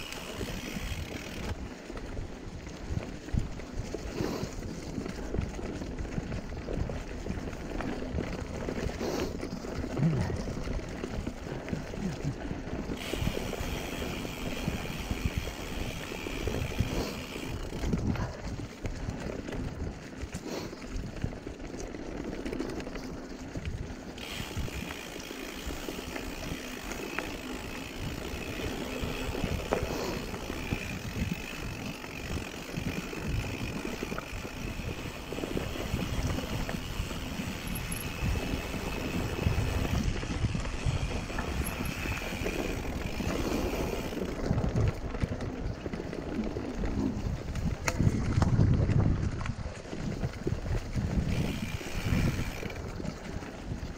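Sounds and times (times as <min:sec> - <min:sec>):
bike rattling and knocking: 0:00.0 - 0:53.9
bike tyres rolling over dirt: 0:00.0 - 0:53.9.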